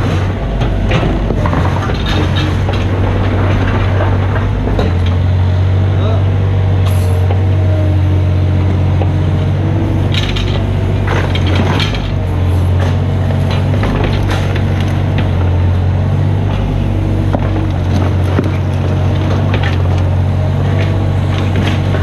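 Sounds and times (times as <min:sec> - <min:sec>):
knocks and scrapes: 0:00.0 - 0:05.8, 0:08.7 - 0:22.0
excavator diesel engine running: 0:00.0 - 0:22.0.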